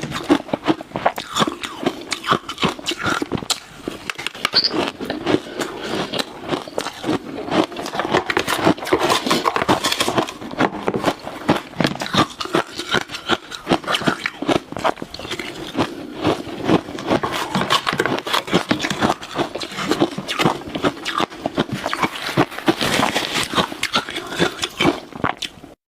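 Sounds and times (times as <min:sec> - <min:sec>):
chewing ice crunches: 0:00.0 - 0:25.7.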